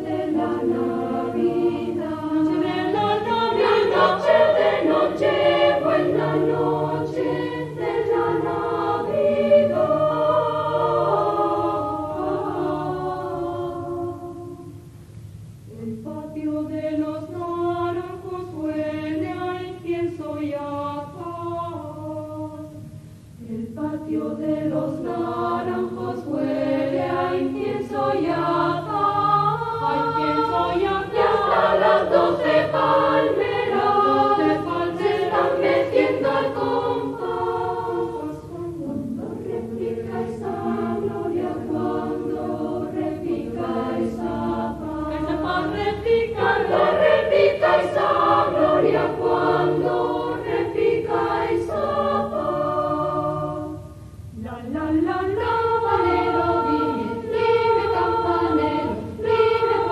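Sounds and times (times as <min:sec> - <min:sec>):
choir singing in parts: 0:00.0 - 0:14.9, 0:15.7 - 0:59.9.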